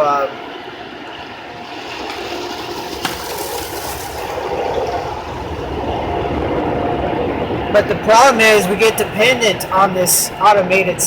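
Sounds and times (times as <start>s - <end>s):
car wash rushing: 0.0s - 11.0s
low rumble: 0.8s - 11.0s.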